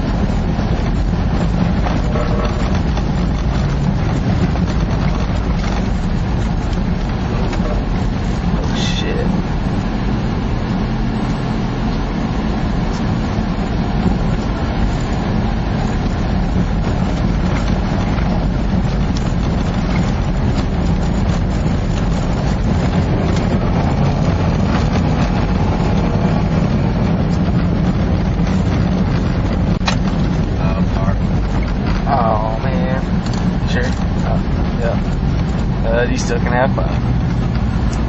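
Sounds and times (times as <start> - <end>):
engine and tyre rumble: 0.0 - 38.0.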